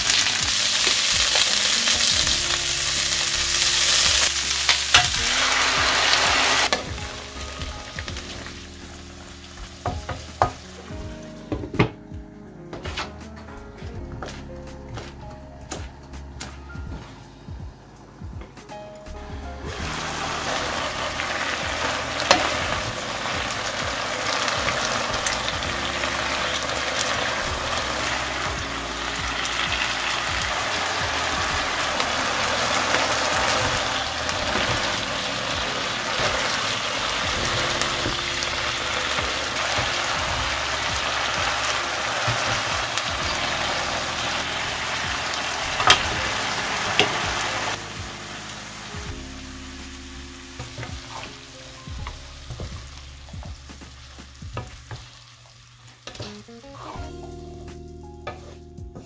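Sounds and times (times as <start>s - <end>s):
food sizzling in a pan: 0.0s - 10.9s, 19.7s - 58.6s.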